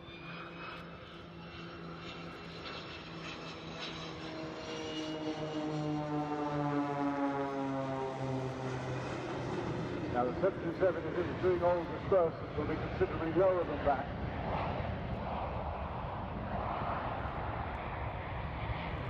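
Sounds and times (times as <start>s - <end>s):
jet and propeller planes passing: 0.0s - 19.0s.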